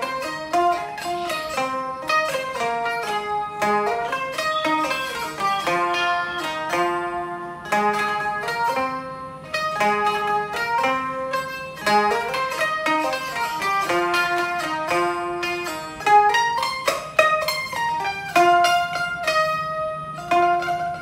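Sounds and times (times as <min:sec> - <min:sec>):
plucked zither melody: 0:00.0 - 0:21.0.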